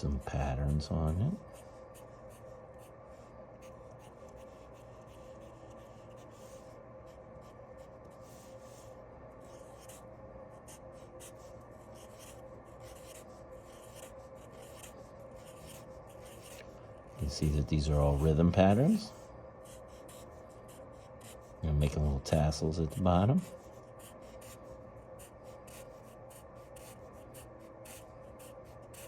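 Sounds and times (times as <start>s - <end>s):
drawing tool scratching paper: 0.0s - 29.0s
faint steady hum: 0.0s - 29.0s.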